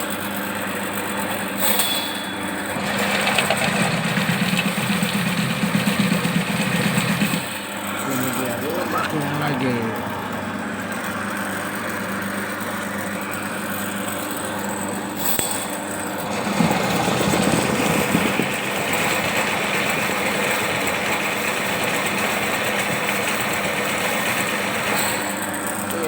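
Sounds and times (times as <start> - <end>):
drain cleaning machine running: 0.0 - 26.0.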